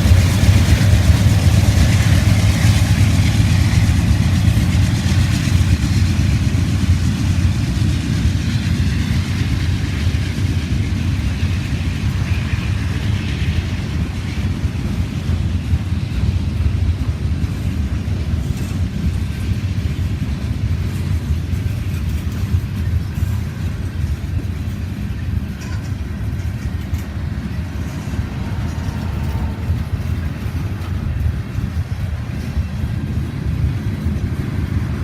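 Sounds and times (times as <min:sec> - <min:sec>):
heavy vehicle engine rumbling: 0:00.0 - 0:35.0.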